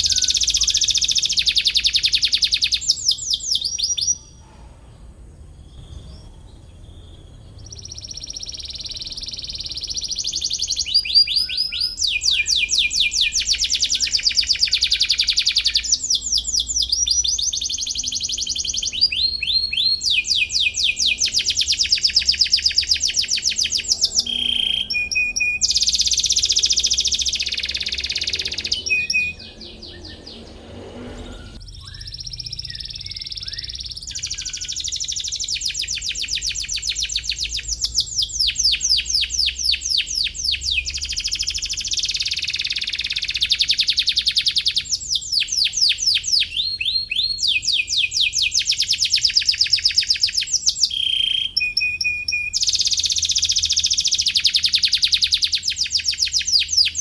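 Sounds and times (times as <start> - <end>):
canary singing trills: 0.0 - 4.7, 5.3 - 57.0.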